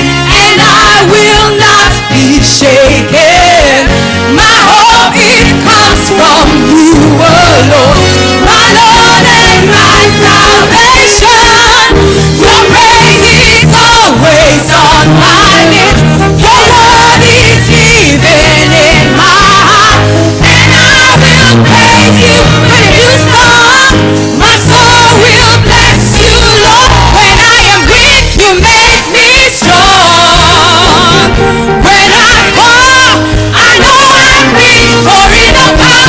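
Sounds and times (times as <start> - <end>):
congregation singing along: 0.0 - 36.0
instrumental backing music: 0.0 - 36.0
woman singing into microphone: 0.0 - 36.0.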